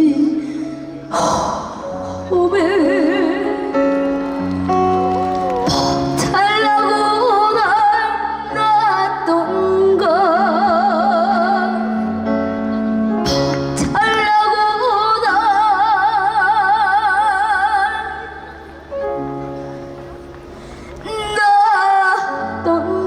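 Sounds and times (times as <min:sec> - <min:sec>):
backing track: 0:00.6 - 0:08.9, 0:11.3 - 0:22.2.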